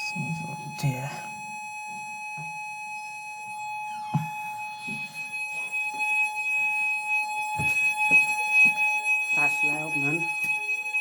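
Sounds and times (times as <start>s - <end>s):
fire alarm steady high tone: 0.0s - 11.0s.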